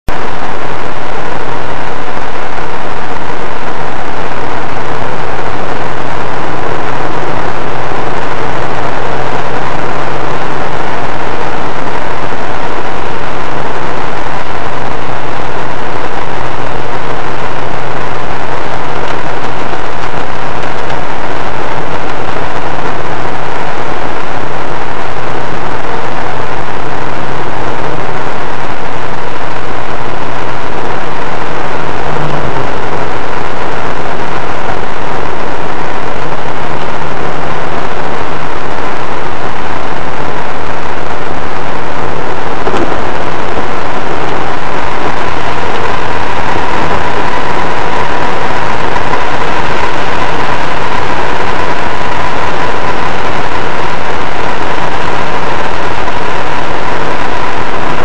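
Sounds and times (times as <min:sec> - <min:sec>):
road noise: 0:00.1 - 0:58.0
low engine hum: 0:00.2 - 0:51.5.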